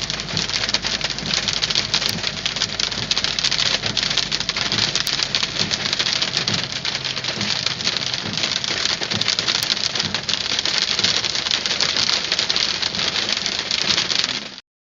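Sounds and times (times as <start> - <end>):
hail pelting a car: 0.0 - 14.6.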